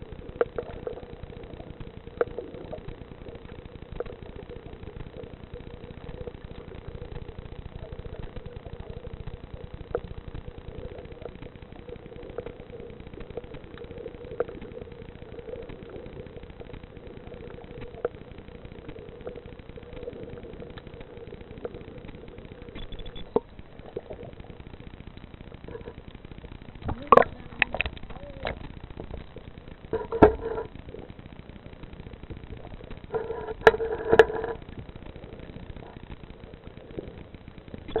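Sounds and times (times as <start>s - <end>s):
underwater low rumble: 0.0s - 38.0s.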